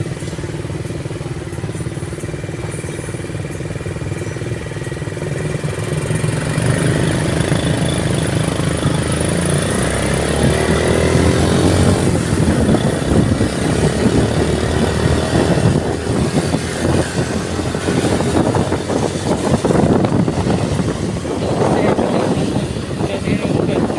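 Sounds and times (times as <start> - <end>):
steady rushing noise: 0.0 - 23.9
vehicle engine running: 0.0 - 23.9.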